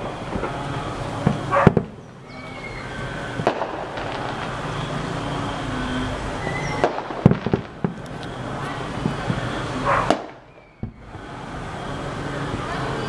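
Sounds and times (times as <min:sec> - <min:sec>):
fireworks bangs: 0:00.0 - 0:13.0
steady background noise: 0:00.0 - 0:13.0.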